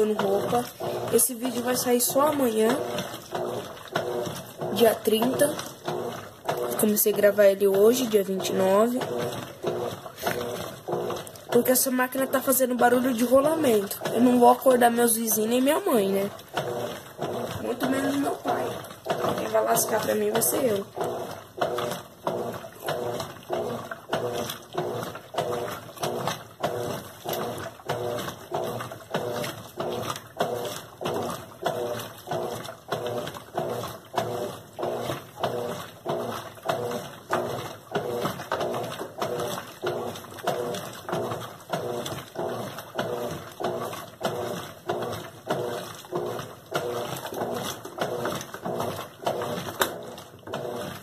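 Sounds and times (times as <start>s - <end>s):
washing machine agitating: 0.0s - 51.0s
washing machine bearing noise: 0.0s - 51.0s.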